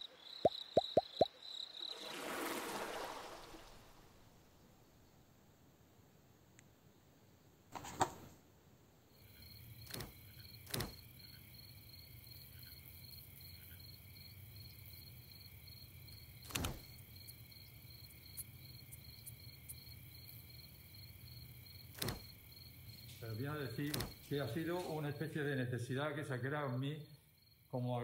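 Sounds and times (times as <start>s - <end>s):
crickets chirping: 0.0s - 7.6s, 8.8s - 28.0s.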